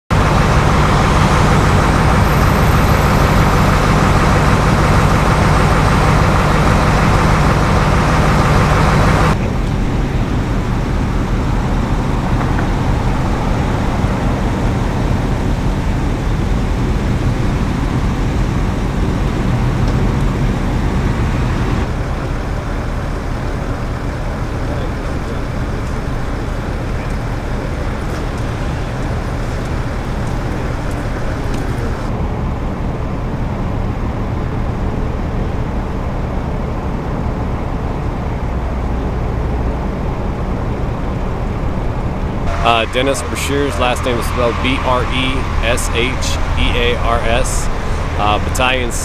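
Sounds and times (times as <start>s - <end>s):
road traffic rumble: 0.1s - 49.0s
vehicle engine idling: 0.1s - 49.0s.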